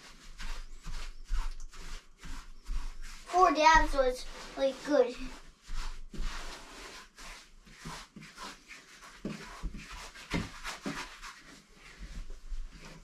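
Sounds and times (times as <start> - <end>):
paintbrush scrubbing wood: 0.0 - 13.0.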